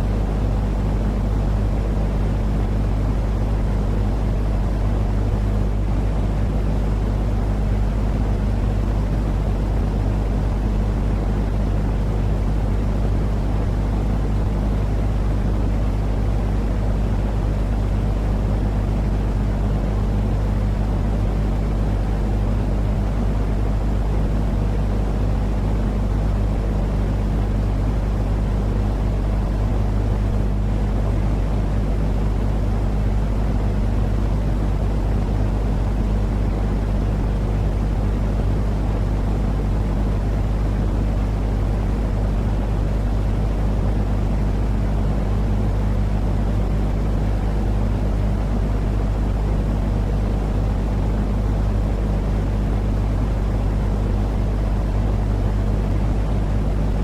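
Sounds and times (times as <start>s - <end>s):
constant low hum: 0.0s - 57.0s.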